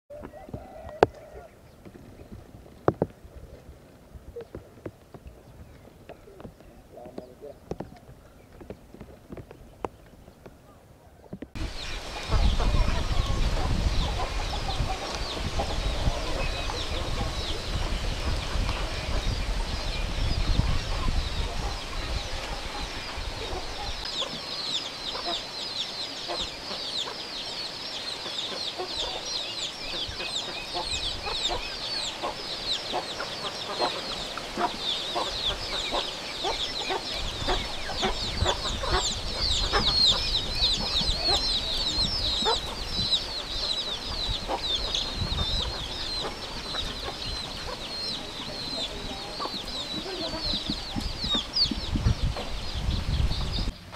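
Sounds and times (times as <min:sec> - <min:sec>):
ducklings peeping: 0:09.6 - 0:53.9.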